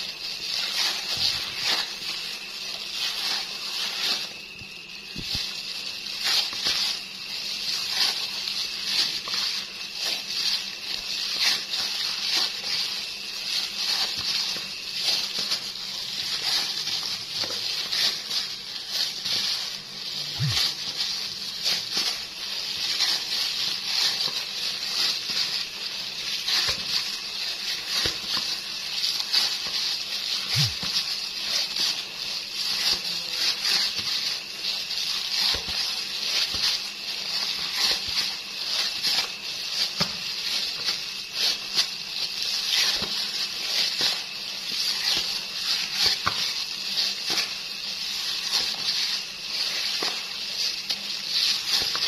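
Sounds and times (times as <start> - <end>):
hands kneading bait mash: 0.0 - 52.0
steady hiss: 0.0 - 52.0.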